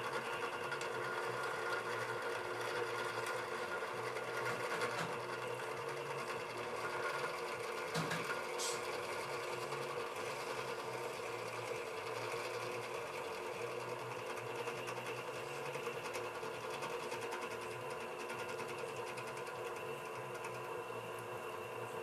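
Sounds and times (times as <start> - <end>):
drill press motor whirring: 0.0 - 22.0.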